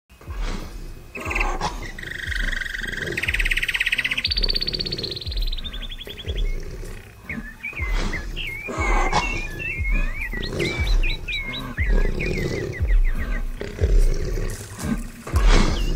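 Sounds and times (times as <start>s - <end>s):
low thumps: 0.1s - 15.9s.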